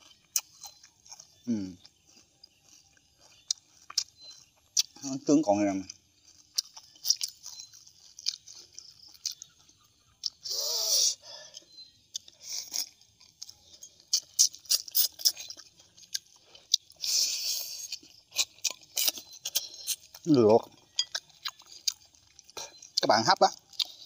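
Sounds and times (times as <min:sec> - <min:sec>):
man chewing and lip smacking: 0:00.0 - 0:24.0.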